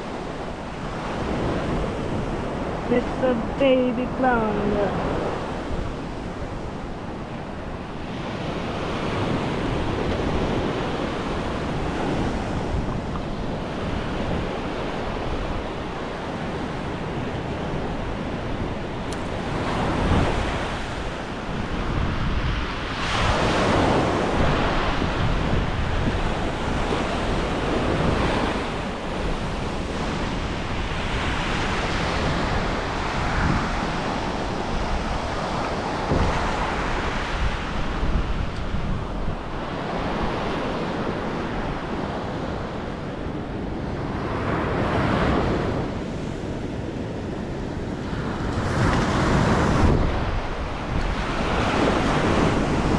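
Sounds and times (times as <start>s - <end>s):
ocean surf washing up beach: 0.0s - 52.9s
wind buffeting microphone: 0.0s - 52.9s.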